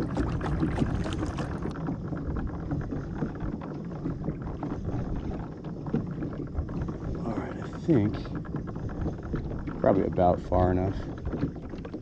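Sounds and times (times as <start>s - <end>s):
low steady rumble: 0.0s - 12.0s
water lapping against kayak hull: 0.0s - 12.0s.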